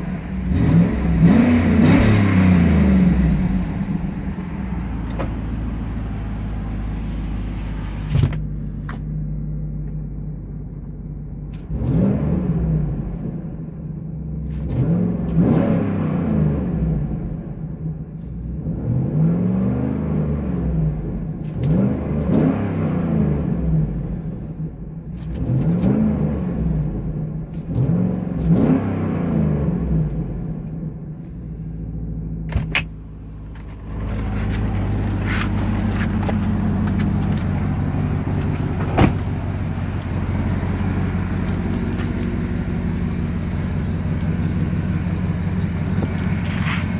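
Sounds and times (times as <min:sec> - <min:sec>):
engine idling and revving: 0:00.0 - 0:46.9.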